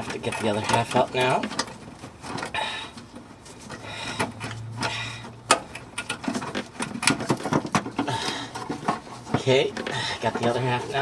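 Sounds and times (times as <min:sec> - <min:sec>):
hands working a fuel filter: 0:00.0 - 0:11.0.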